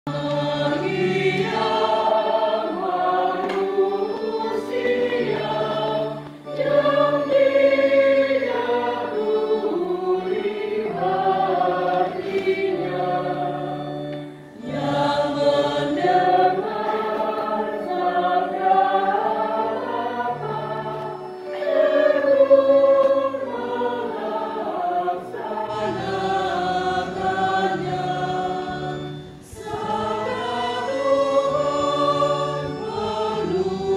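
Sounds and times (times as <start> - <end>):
choir singing a hymn: 0.1 - 33.9.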